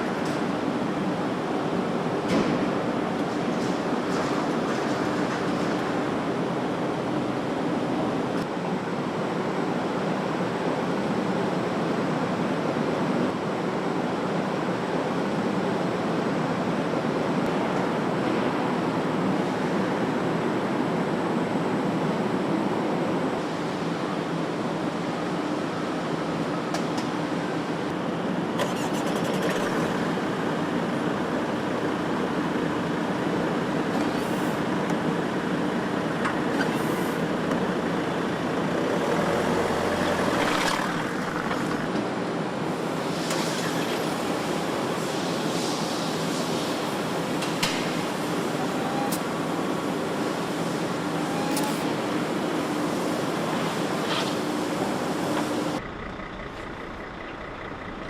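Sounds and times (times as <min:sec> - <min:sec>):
faint constant hum: 0:00.0 - 0:58.0.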